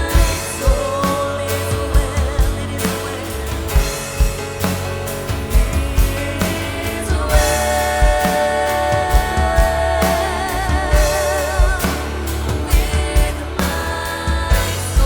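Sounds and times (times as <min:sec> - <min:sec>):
drum beat: 0:00.0 - 0:15.0
worship band playing: 0:00.0 - 0:15.0.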